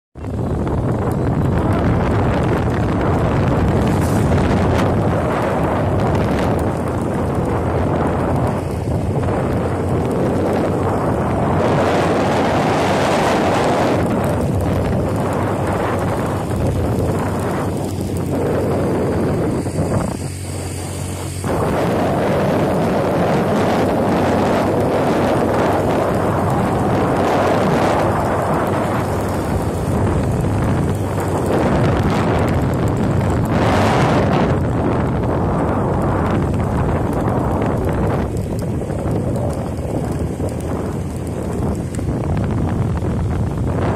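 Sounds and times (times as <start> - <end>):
engine hum: 0.2 - 43.9
wind rushing across microphone: 0.2 - 43.9.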